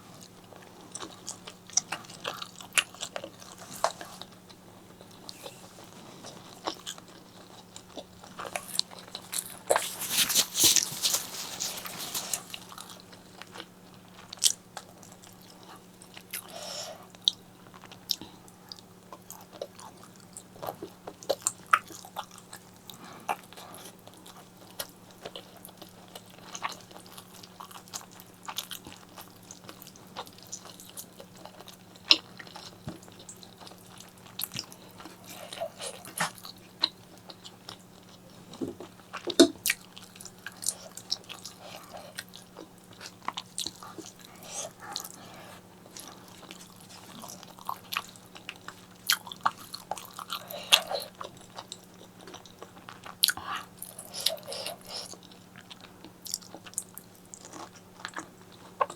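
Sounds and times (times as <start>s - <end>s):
faint steady hum: 0.0s - 58.9s
wet chewing and smacking: 0.2s - 58.9s.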